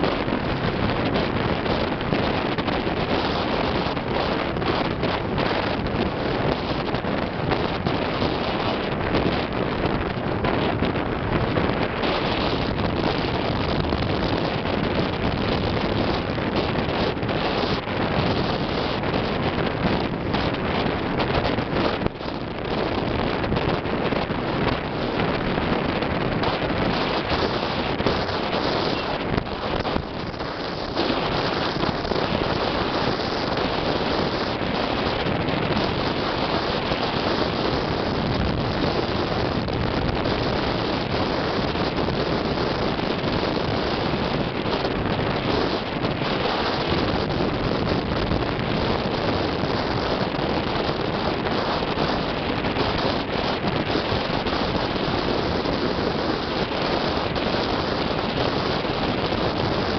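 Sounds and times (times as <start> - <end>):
vehicle road noise on wet road: 0.0 - 59.9
wind on microphone: 0.0 - 59.9.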